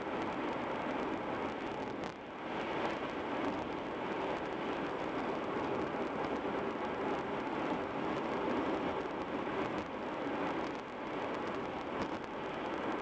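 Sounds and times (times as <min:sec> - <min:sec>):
tyre road noise: 0:00.0 - 0:13.0
wind noise: 0:00.0 - 0:13.0.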